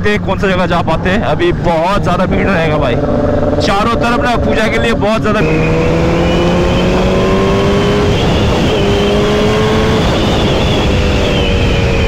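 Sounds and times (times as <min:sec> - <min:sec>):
motorcycle engine running: 0:00.0 - 0:12.0
wind rush over microphone: 0:00.0 - 0:12.0.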